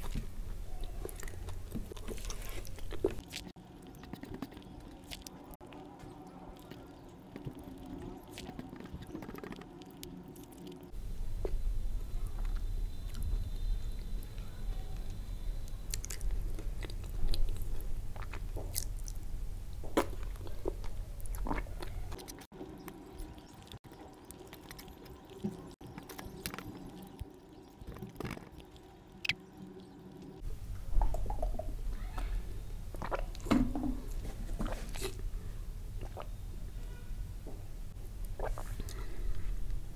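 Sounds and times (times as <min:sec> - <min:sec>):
chewing and wet mouth sounds: 0:00.0 - 0:31.7, 0:32.9 - 0:36.4, 0:38.0 - 0:39.8.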